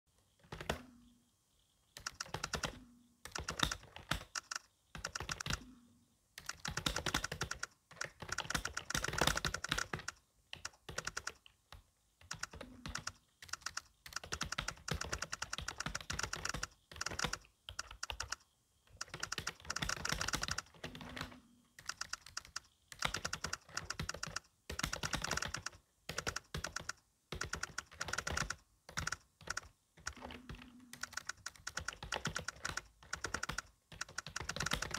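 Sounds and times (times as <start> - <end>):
keyboard typing clicks: 0.4 - 1.0, 2.0 - 5.8, 6.4 - 34.9.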